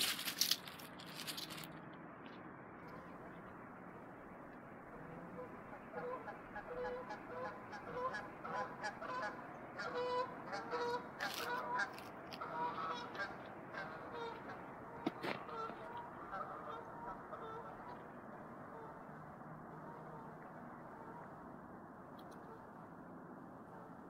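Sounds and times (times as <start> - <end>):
geese honking: 2.8 - 21.5, 22.2 - 23.0, 23.6 - 24.0.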